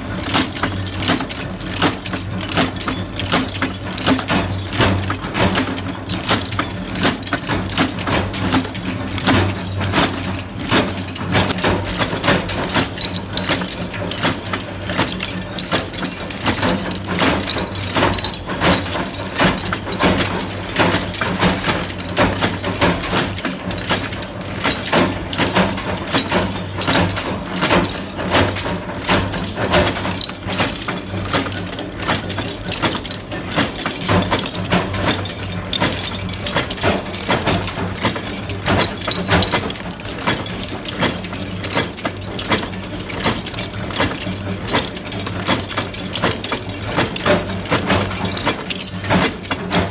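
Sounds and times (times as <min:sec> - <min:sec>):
metal clicks and clinks clatter: 0:00.0 - 0:49.9.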